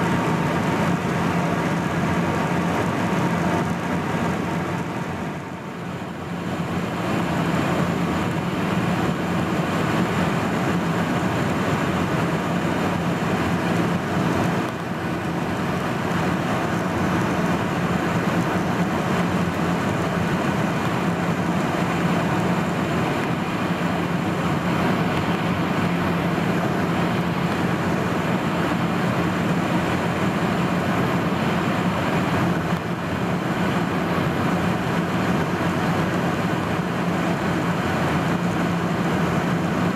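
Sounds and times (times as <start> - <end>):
airplane cabin air rush: 0.0 - 39.9
jet engine low hum: 0.0 - 39.9.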